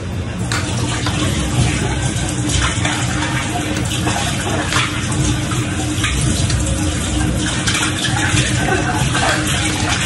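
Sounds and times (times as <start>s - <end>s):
tap running into metal sink: 0.5s - 10.0s.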